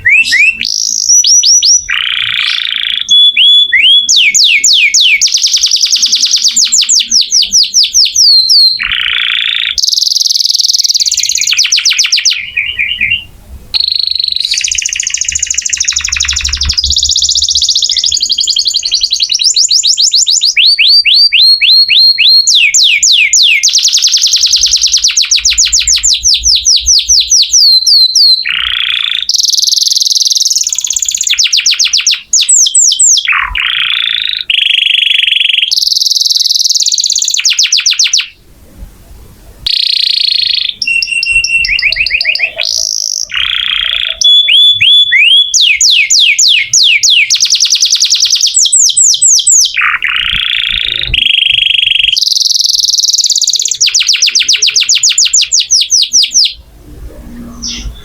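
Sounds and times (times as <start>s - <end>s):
canary singing trills: 0.0s - 38.4s, 39.5s - 58.0s.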